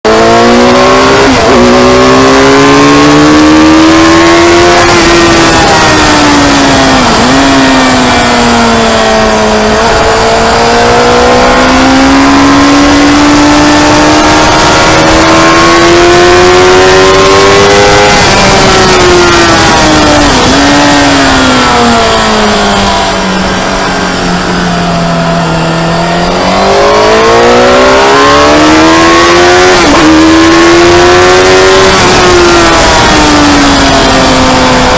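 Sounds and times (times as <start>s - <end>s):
motorcycle engine running hard: 0.0s - 34.9s.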